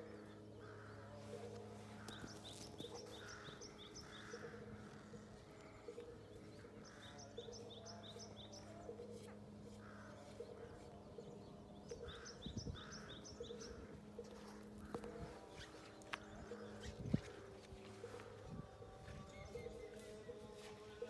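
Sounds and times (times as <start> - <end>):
songbird chirping: 0.0 - 21.0
steady low hum: 0.0 - 21.0.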